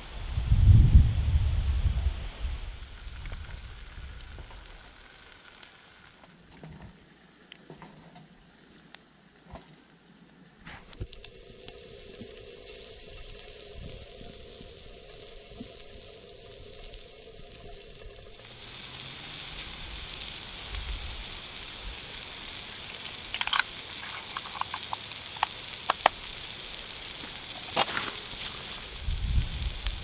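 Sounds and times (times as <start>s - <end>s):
meat and eggs sizzling in pan: 0.0s - 7.7s, 10.3s - 30.0s
sharp pops and crackles: 2.7s - 30.0s.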